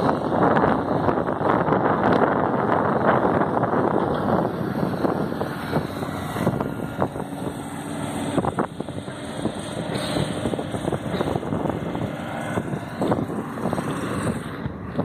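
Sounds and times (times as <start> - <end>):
engine running: 0.0 - 15.0
wind buffeting microphone: 0.0 - 15.0.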